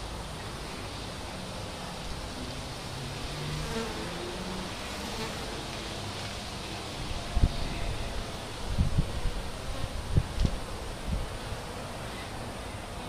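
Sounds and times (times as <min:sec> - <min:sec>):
honeybees buzzing: 0:00.0 - 0:13.0
steady hiss: 0:00.0 - 0:13.0
bees passing close: 0:00.1 - 0:13.0.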